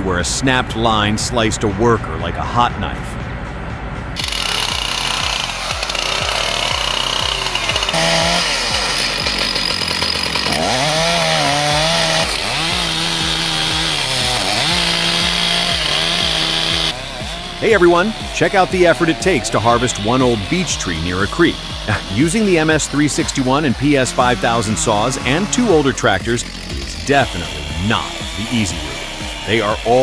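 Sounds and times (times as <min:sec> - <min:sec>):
chainsaw cutting wood: 0:04.2 - 0:30.0.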